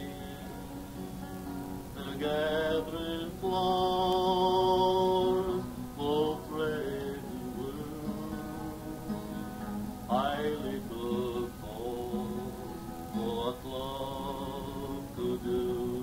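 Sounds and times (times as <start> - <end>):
slow folk melody: 0.0 - 16.0.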